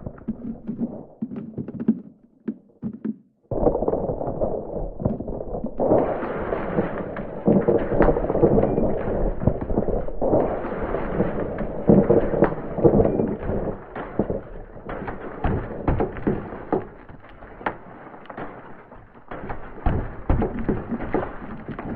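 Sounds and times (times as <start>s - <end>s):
ice cracking and popping: 0.0s - 21.9s
low rumble of collapsing ice: 3.5s - 21.9s.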